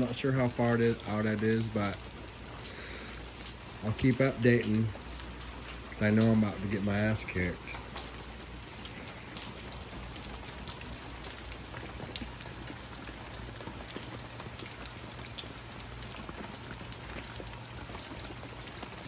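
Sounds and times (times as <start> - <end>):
raindrops ticking close by: 0.0 - 19.0
steady rain falling: 0.0 - 19.0.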